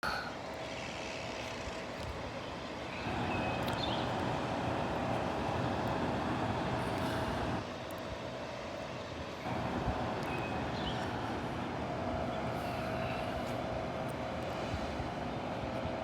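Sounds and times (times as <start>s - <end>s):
wind: 0.0s - 16.0s
ocean surf: 2.7s - 16.0s.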